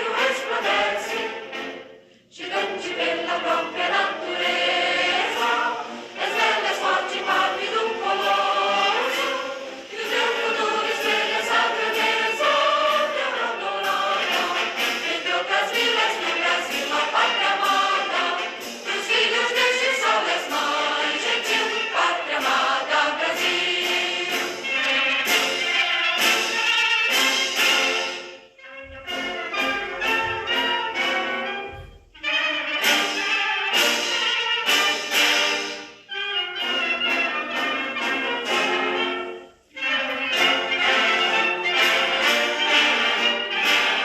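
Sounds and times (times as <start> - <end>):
choir singing: 0.0 - 44.0.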